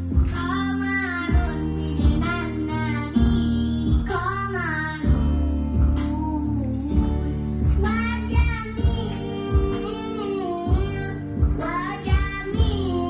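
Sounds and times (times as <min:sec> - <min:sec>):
child singing: 0:00.0 - 0:13.0
instrumental backing with beat: 0:00.0 - 0:13.0.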